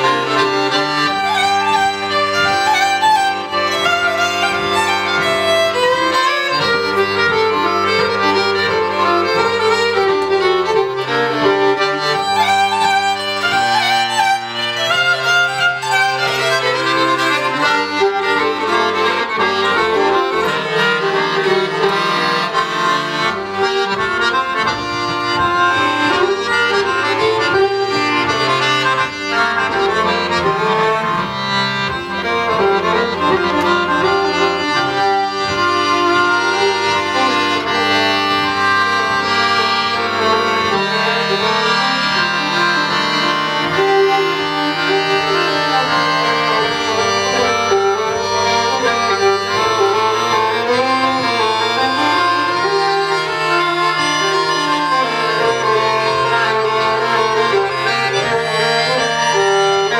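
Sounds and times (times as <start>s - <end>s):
button accordion playing: 0.0s - 59.9s
fiddle playing folk tune: 0.0s - 59.9s.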